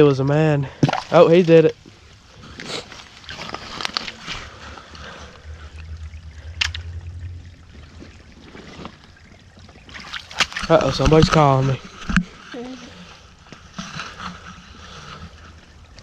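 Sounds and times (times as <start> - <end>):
creek water trickling: 0.0 - 16.0.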